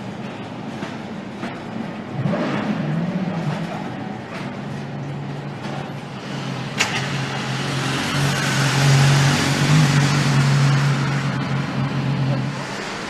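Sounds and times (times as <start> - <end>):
rushing noise: 2.0 - 13.0.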